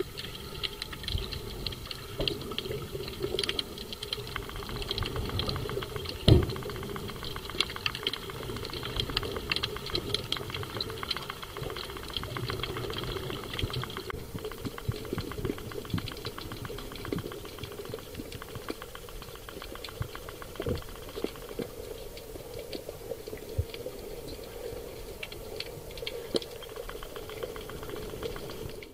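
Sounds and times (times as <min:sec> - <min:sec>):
low hum: 0:00.0 - 0:28.9
underwater crackle of clicks: 0:00.0 - 0:28.9.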